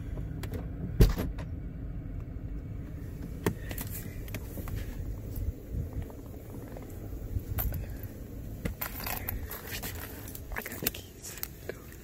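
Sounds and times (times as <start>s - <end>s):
air conditioning: 0.0s - 12.0s
car engine idling: 0.0s - 12.0s.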